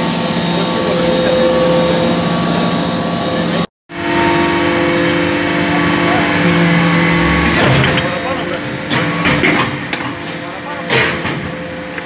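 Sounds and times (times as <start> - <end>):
press machine hum: 0.0 - 12.0.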